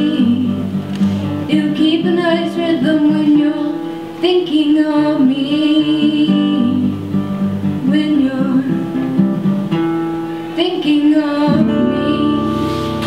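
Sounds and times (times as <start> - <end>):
woman singing: 0.0 - 9.2, 10.5 - 13.0
acoustic guitar playing: 0.0 - 13.0.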